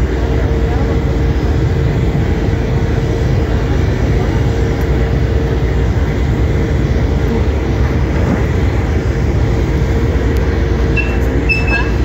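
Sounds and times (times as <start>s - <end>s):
ship diesel engine rumbling: 0.0s - 12.0s.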